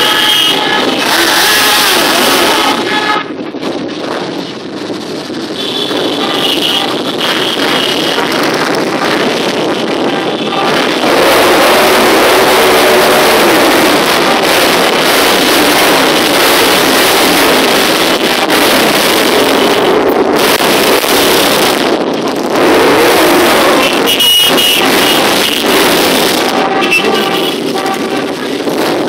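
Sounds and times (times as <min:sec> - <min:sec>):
motorcycles passing: 0:00.0 - 0:29.0
motorcycle engine revving: 0:05.6 - 0:29.0.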